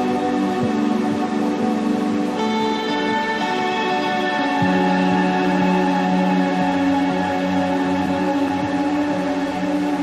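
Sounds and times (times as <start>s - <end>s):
slow ambient music: 0.0s - 10.0s.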